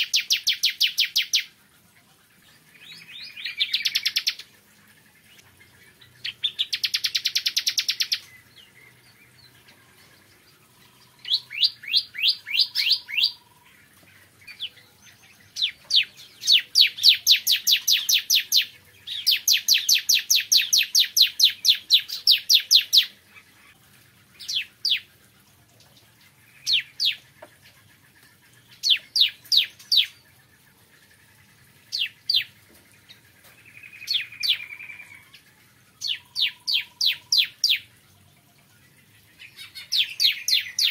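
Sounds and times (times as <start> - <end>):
bird singing fast trills: 0.0 - 25.2, 26.0 - 40.9.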